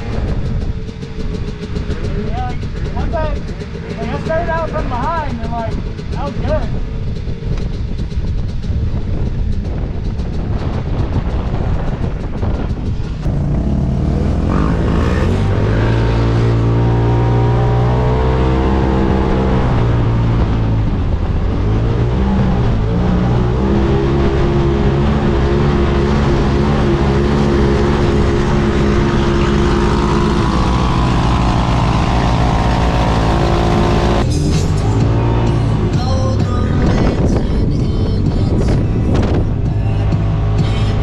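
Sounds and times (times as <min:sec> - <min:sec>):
engine running at high revs: 0:00.0 - 0:41.0
wind rushing: 0:00.0 - 0:41.0.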